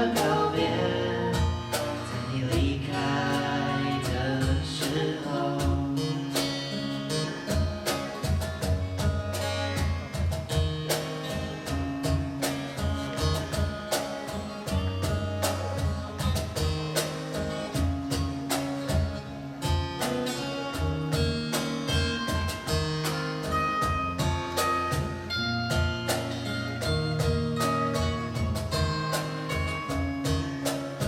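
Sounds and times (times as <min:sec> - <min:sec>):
guitars: 0:00.0 - 0:31.0
keyboard: 0:00.0 - 0:31.0
steady drum beats: 0:00.0 - 0:31.0.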